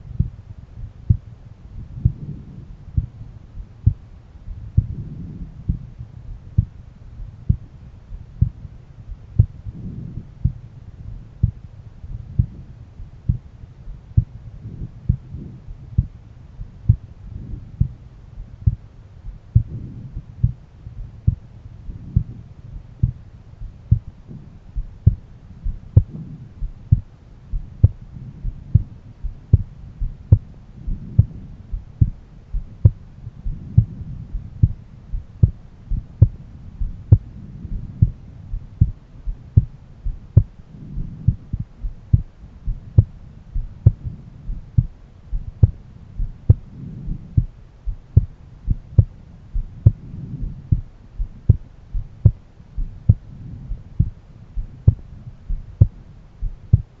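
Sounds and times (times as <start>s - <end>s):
heartbeat through stethoscope: 0.0s - 57.0s
low hum: 0.0s - 57.0s.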